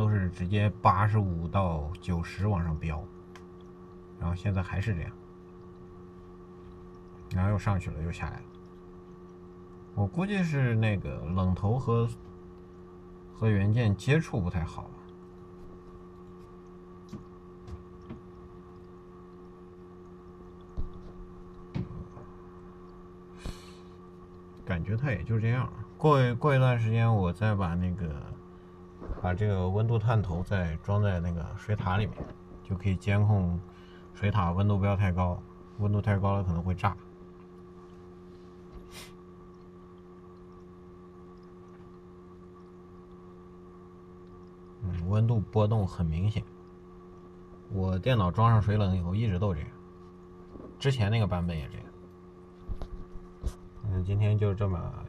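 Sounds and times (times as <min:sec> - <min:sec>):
small pump humming: 0:00.0 - 0:55.0.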